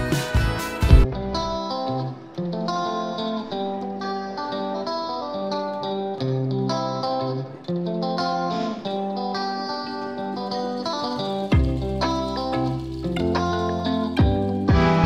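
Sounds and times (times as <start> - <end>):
plucked guitar music with beat: 0.0 - 15.0.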